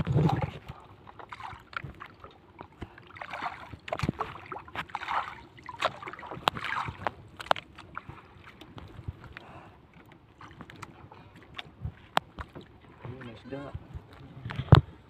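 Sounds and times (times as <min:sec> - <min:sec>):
water sloshing against boat hull: 0:00.0 - 0:15.0.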